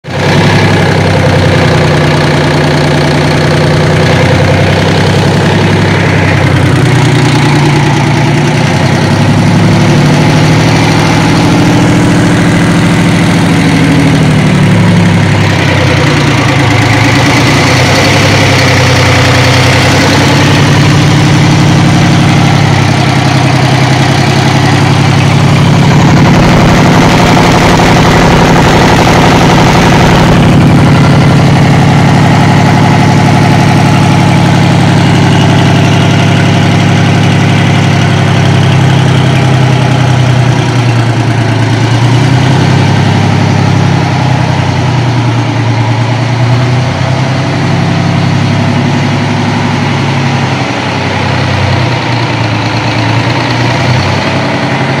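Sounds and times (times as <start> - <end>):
diesel engine running loudly: 0.0 - 55.0.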